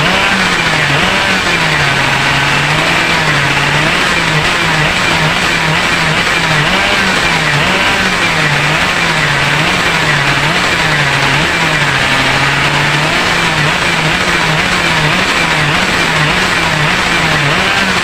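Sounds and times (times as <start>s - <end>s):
motorcycle engine running unevenly: 0.0s - 18.0s.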